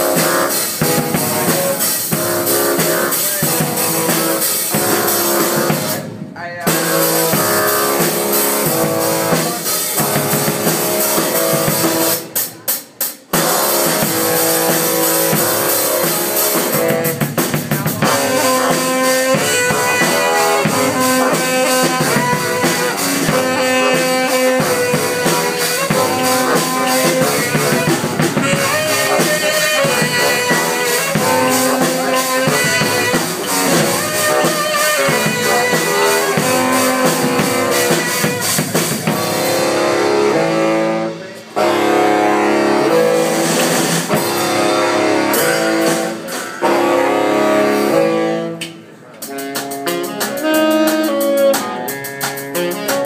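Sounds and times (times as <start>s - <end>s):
drum kit playing funk groove: 0.0s - 53.0s
saxophones playing funk: 0.0s - 53.0s.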